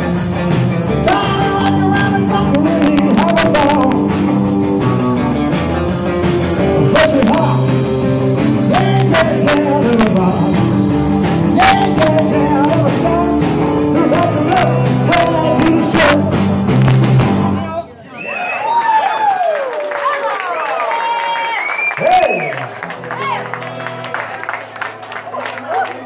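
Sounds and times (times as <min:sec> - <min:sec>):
live rock band playing: 0:00.0 - 0:17.8, 0:22.7 - 0:26.0.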